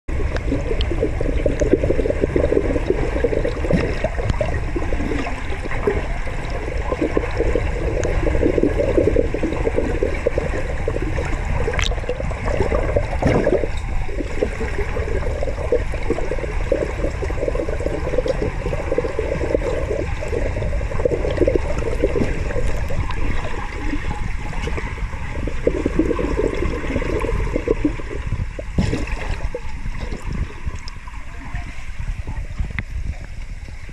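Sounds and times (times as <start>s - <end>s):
underwater gurgling and rushing: 0.0s - 33.9s.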